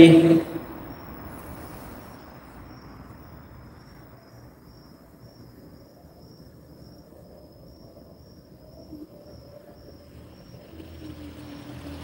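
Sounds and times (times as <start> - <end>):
crickets chirping: 0.0 - 12.0
low background noise: 0.0 - 12.0.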